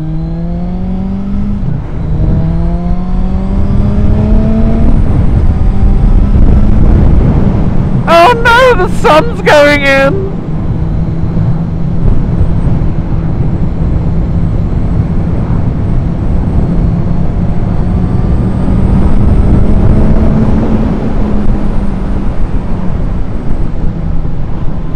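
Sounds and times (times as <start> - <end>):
motorcycle engine drone: 0.0 - 24.9
wind buffeting: 0.6 - 24.9.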